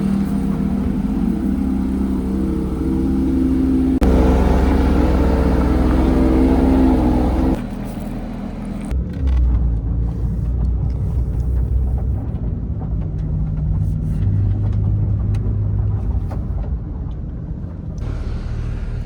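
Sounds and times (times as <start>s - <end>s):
sports car engine running: 0.0s - 19.0s.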